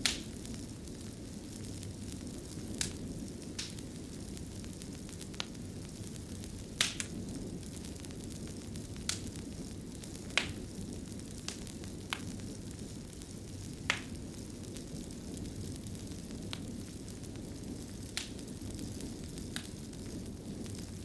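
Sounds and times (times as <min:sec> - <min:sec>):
fire popping: 0:00.0 - 0:21.0
low rumble of flames: 0:00.0 - 0:21.0.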